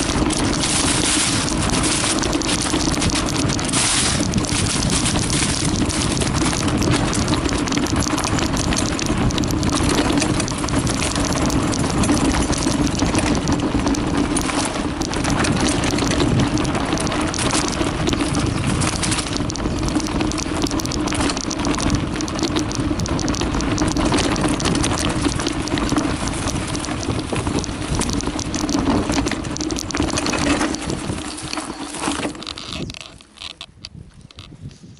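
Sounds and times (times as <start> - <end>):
bike chain and frame rattling: 0.0 - 34.6
tyres crackling over dirt: 0.0 - 34.6.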